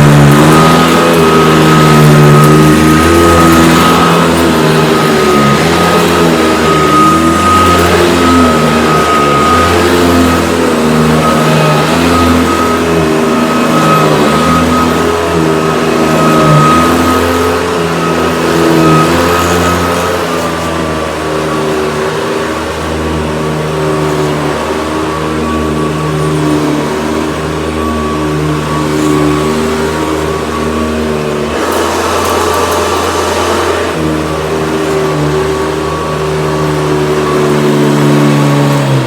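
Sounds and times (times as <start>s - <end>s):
vacuum cleaner motor hum: 0.0s - 39.0s
vacuum cleaner whine: 0.0s - 39.0s.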